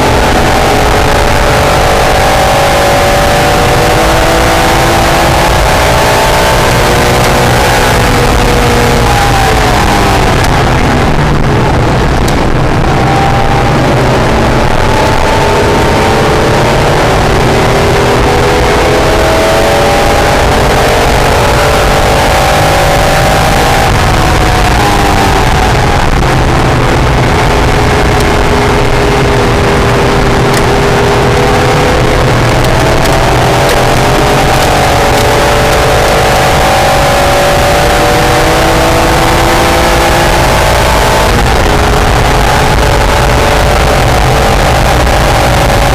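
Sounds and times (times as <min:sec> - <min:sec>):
car engine revving: 0:00.0 - 0:45.9
wind and road noise: 0:00.0 - 0:45.9.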